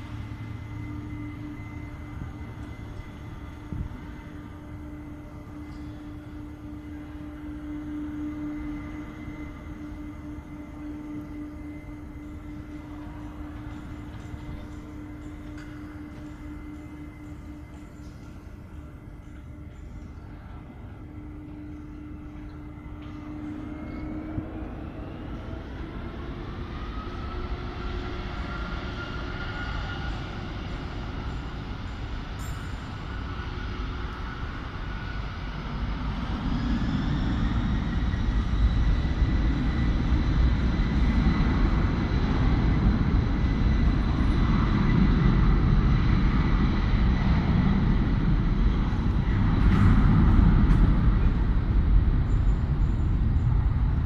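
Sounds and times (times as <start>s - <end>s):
jet engine deep rumble: 0.0s - 54.0s
jet engine whine: 0.0s - 54.0s.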